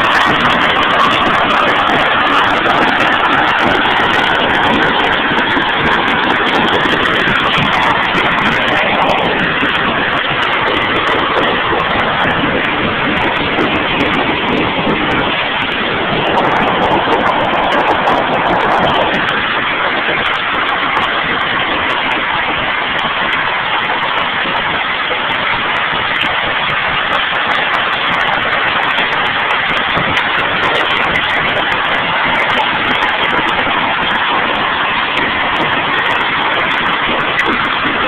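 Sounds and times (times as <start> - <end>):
hailstones rattling on surfaces: 0.0 - 38.0.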